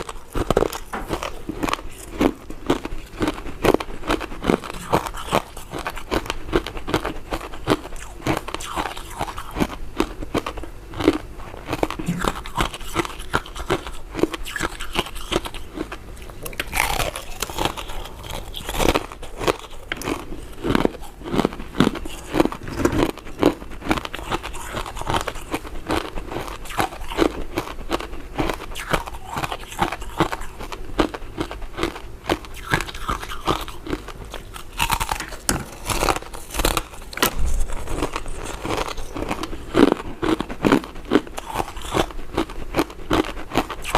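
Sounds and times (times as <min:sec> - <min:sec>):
crunchy sweets being chewed: 0:00.0 - 0:43.9.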